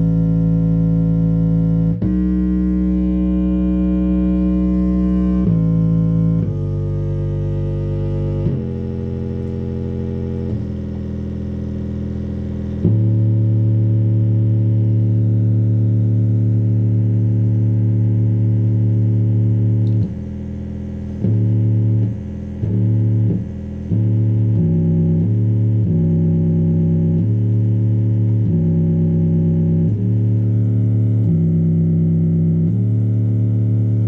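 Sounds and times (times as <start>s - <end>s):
low synthesizer bass notes: 0.0s - 34.0s.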